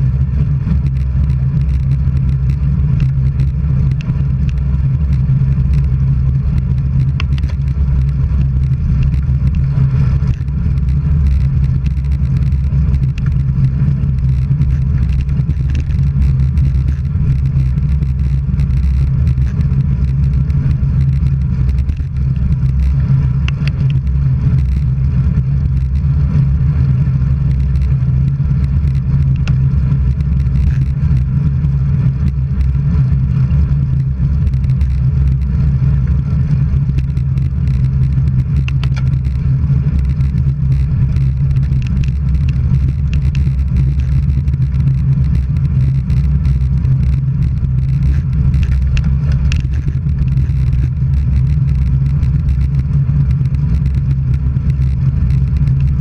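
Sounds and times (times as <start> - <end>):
wind and road noise rumble: 0.0 - 56.0
faint clicks: 0.7 - 26.1, 27.4 - 56.0.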